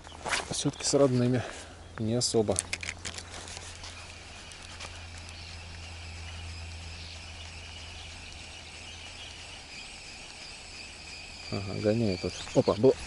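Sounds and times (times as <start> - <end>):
low steady hum: 0.0 - 13.0
insects chirring: 2.0 - 13.0.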